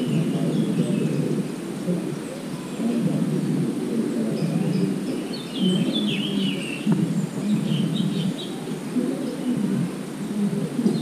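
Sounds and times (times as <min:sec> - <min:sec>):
small birds chirping: 0:00.0 - 0:11.0
steady low rumbling noise: 0:00.0 - 0:11.0.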